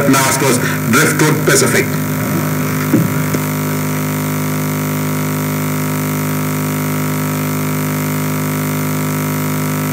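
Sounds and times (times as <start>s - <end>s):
electrical mains hum: 0.0s - 9.9s.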